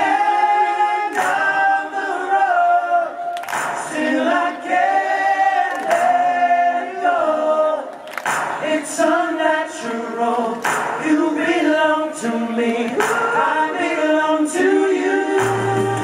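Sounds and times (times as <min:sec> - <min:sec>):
male vocal quartet singing: 0:00.0 - 0:08.0, 0:08.6 - 0:16.0.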